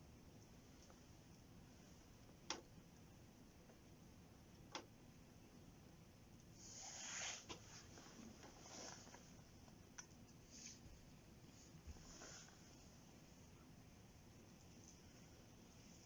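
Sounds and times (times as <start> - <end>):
soft hiss of fire: 0.0 - 16.0.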